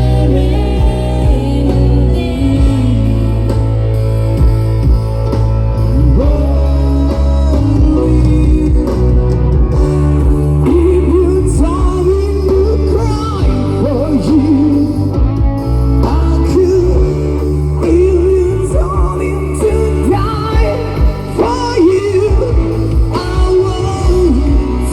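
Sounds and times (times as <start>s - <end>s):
bass and drums: 0.0s - 24.9s
sliding lead melody: 0.0s - 24.9s.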